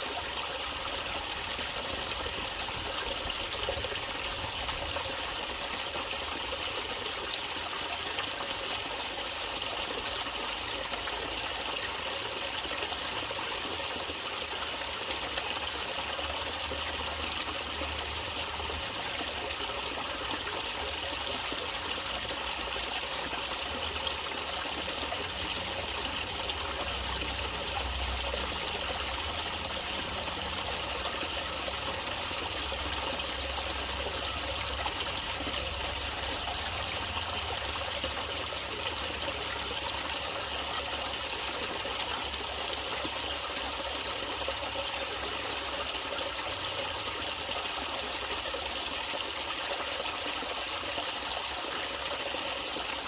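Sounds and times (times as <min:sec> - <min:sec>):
stream trickling over stones: 0:00.0 - 0:53.0.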